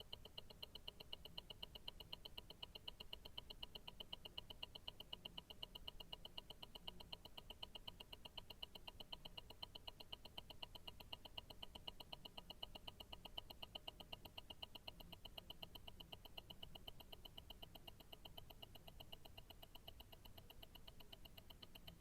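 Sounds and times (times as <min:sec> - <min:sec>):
watch ticking: 0:00.0 - 0:22.0.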